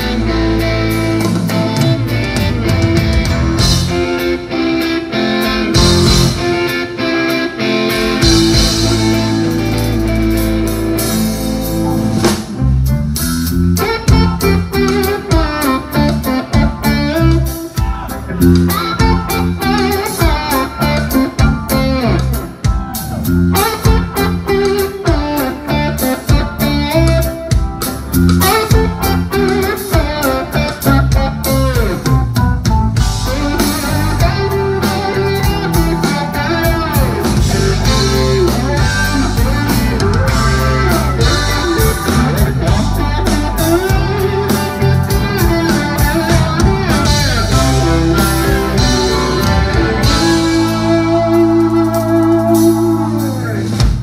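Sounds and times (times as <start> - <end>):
steady drum beat: 0.0 - 4.6, 5.6 - 7.0, 7.9 - 54.0
electric guitar solo: 0.0 - 54.0
live rock band: 0.0 - 54.0.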